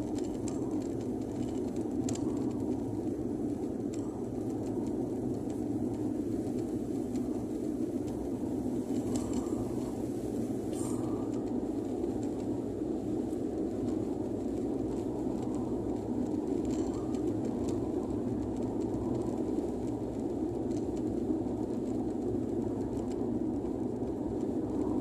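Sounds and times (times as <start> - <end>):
car driving on highway: 0.0 - 25.0.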